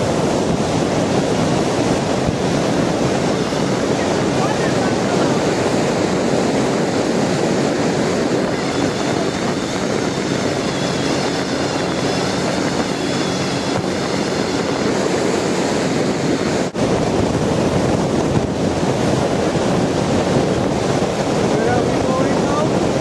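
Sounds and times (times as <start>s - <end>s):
motorboat engine drone: 0.0s - 23.0s
water rushing past hull: 0.0s - 23.0s
wind buffeting microphone: 0.0s - 23.0s.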